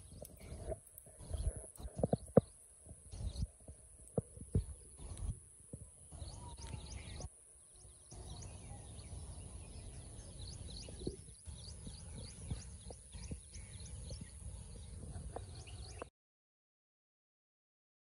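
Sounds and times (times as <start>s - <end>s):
birds chirping: 0.0s - 16.1s.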